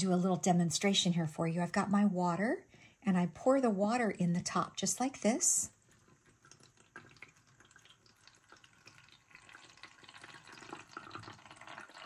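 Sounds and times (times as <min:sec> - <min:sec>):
water trickling into reservoir: 0:00.0 - 0:12.0.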